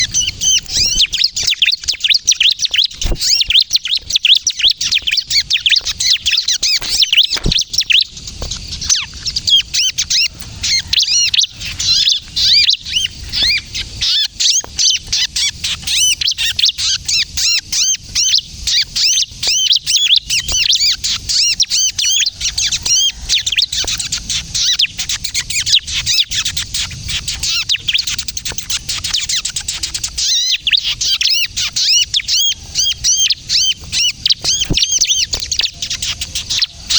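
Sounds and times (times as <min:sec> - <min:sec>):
bird singing rapid high chirps: 0:00.0 - 0:36.9.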